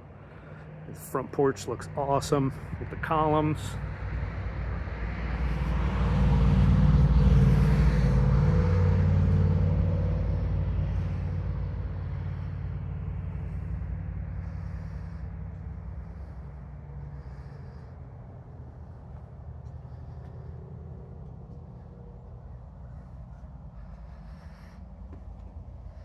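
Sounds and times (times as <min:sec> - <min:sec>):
vehicle driving past: 0:00.0 - 0:26.0.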